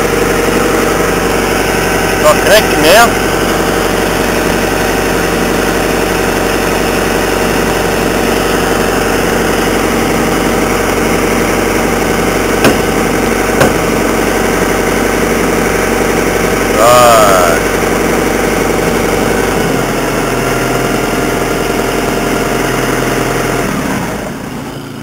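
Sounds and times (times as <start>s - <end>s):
stump grinder engine idling: 0.0s - 25.0s.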